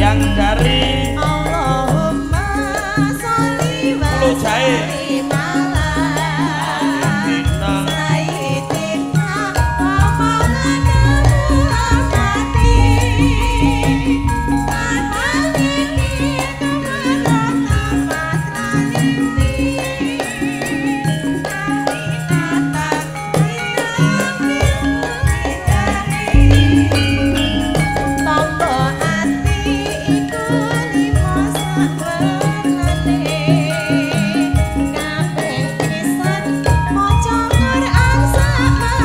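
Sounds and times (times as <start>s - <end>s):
gamelan and drum ensemble: 0.0s - 39.0s
woman singing with vibrato: 0.0s - 39.0s.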